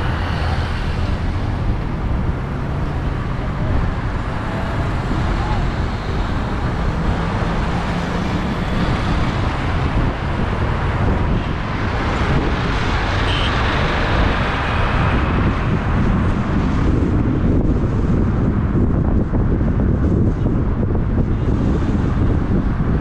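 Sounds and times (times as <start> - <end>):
car driving in traffic: 0.0 - 23.0.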